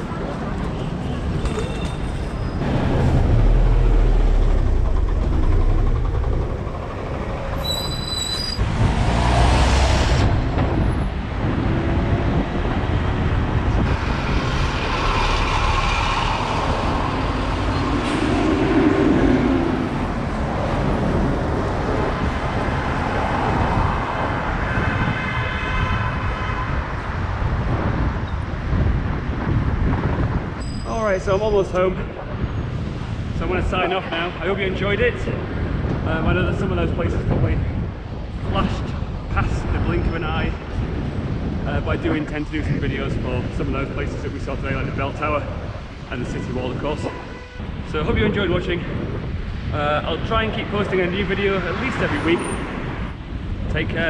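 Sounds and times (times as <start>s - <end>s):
passing vehicles: 0.0s - 30.6s, 31.2s - 54.0s
road noise: 0.0s - 54.0s.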